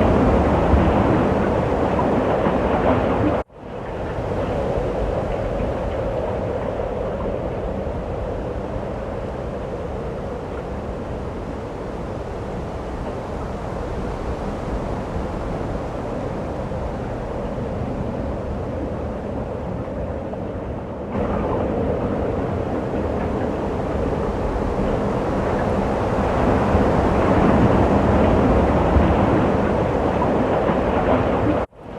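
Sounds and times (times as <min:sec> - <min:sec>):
rushing snowstorm wind: 0:00.0 - 0:31.9.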